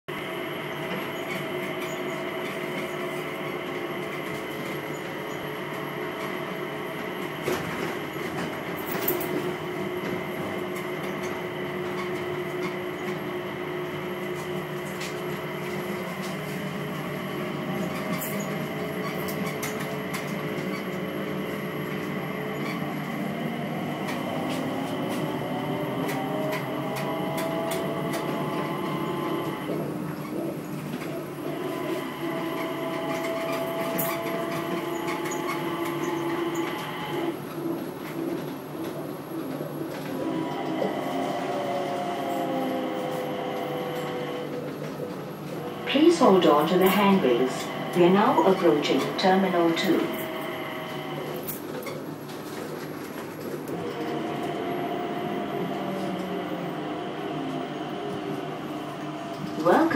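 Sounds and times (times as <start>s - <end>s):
train motor whine: 0.1s - 59.9s
train wheels rumbling on rail: 0.1s - 59.9s.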